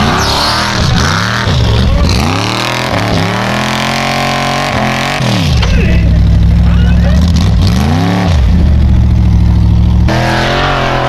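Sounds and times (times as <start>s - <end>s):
buggy engine revving hard: 0.0s - 11.0s.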